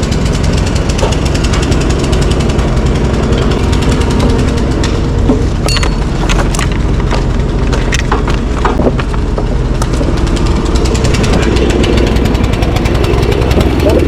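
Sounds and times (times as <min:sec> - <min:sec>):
sharp knocks and cracks: 0:00.0 - 0:12.6
vehicle engine running: 0:00.0 - 0:14.0.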